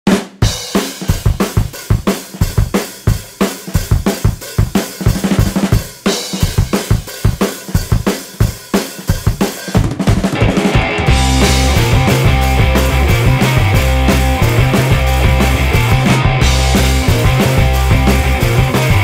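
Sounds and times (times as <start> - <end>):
drum-heavy music with fast beat: 0.1 - 19.0.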